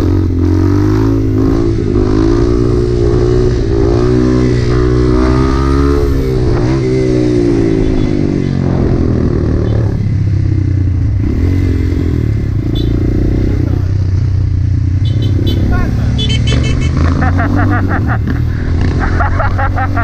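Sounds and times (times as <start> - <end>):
dirt bike engine revving: 0.0 - 14.2, 14.9 - 20.0.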